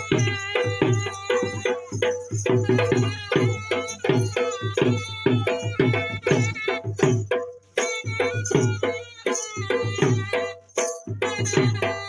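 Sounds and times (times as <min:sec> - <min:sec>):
pitched folk drum strokes: 0:00.0 - 0:12.0.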